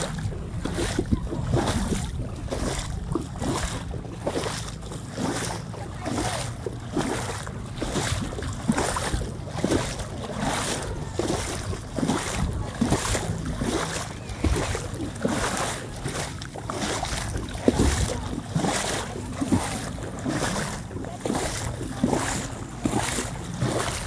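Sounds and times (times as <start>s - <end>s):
water splashing around kayak: 0.0s - 24.0s
wind rumble on microphone: 0.0s - 24.0s.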